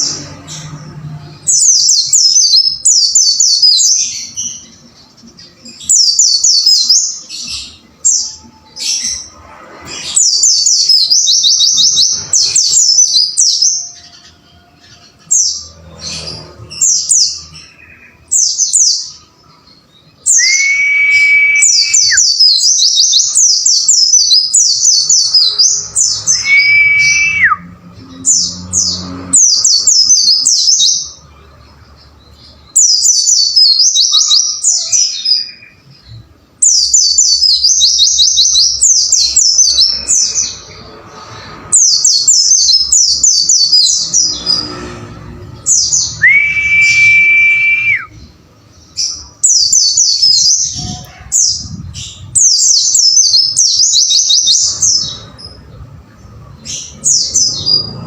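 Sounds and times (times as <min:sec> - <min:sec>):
bird singing chattering song: 0:00.0 - 0:44.9, 0:45.6 - 0:58.0.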